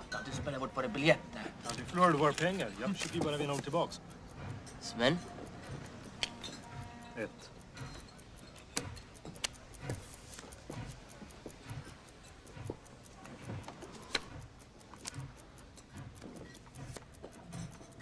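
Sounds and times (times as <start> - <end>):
clock ticking: 0.0 - 18.0
cards and coins clicking on wood: 0.1 - 18.0.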